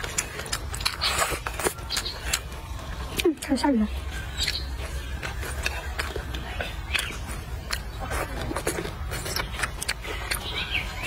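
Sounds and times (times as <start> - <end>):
wet chewing clicks and smacks: 0.0 - 3.6, 4.2 - 11.0.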